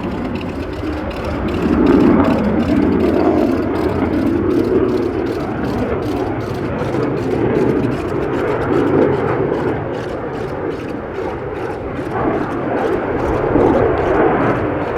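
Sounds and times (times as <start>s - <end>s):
jet engine roar in flight: 0.1s - 14.9s.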